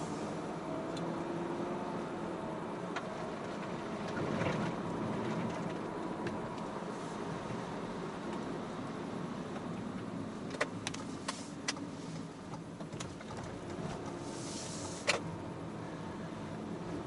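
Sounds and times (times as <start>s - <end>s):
road vehicle running noise: 0.0s - 17.0s.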